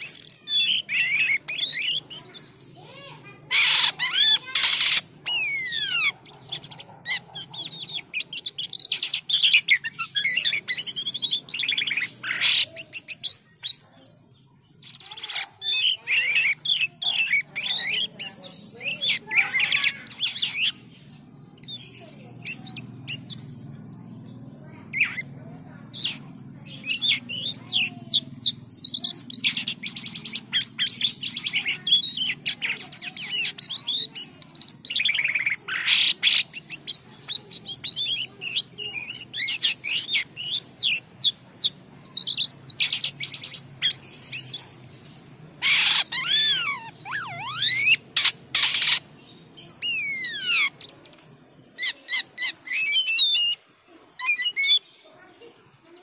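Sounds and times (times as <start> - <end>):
songbird singing whistles and trills: 0.0 - 25.3, 25.9 - 53.6, 54.2 - 55.1.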